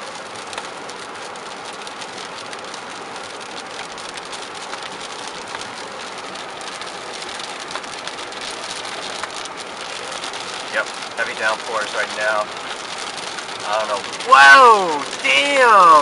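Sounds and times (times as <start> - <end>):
heavy rain on car roof: 0.0 - 16.0.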